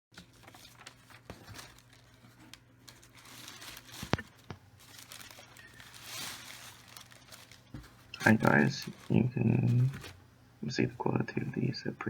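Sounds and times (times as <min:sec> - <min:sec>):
rustling: 0:00.2 - 0:10.2
faint steady hum: 0:00.2 - 0:12.0.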